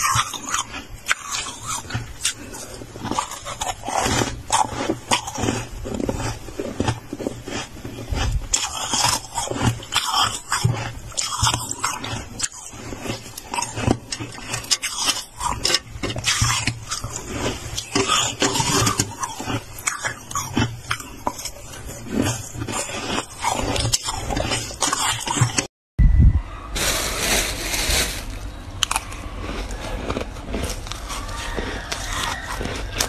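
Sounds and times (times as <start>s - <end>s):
freezer frost crackling: 0.0s - 25.7s, 26.8s - 33.0s
frost scraping crunch: 0.0s - 25.7s, 26.8s - 33.0s.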